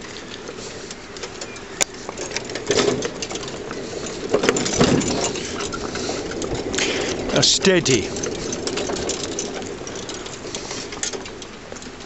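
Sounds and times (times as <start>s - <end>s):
cart and harness rattling: 0.0s - 12.0s.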